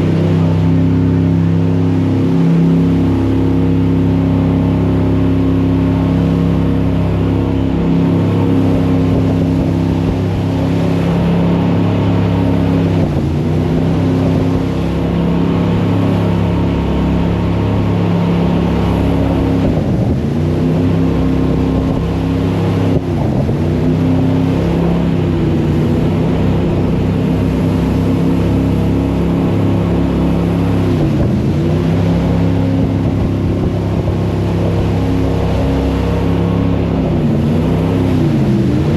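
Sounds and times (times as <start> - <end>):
jet boat engine running: 0.0 - 38.9
rushing water: 0.0 - 38.9
wind: 0.0 - 38.9.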